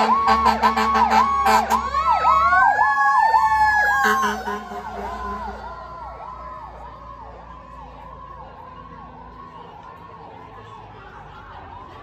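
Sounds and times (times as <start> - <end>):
fire engine siren: 0.0 - 12.0.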